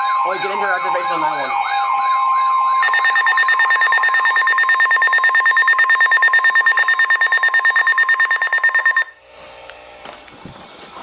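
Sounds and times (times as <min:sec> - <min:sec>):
pulsing two-tone alert: 0:00.0 - 0:09.2.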